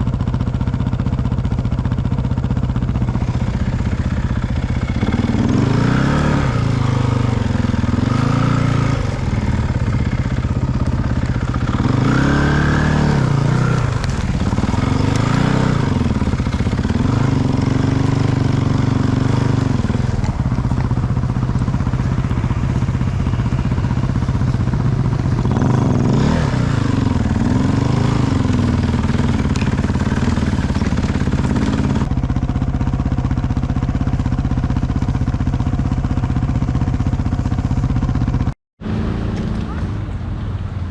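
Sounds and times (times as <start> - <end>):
off-road vehicle engine revving: 2.1 - 40.9.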